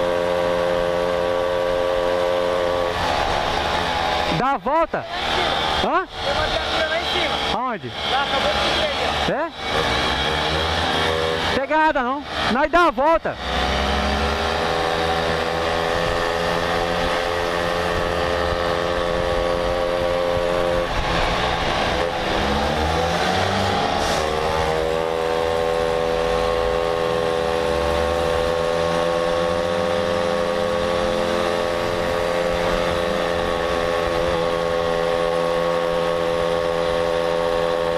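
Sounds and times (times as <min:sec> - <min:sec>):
moped engine running: 0:00.0 - 0:37.9.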